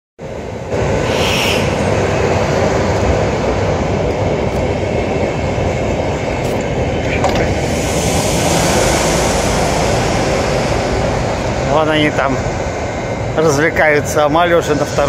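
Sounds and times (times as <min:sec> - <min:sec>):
train equipment rushing hum: 0:00.2 - 0:15.0.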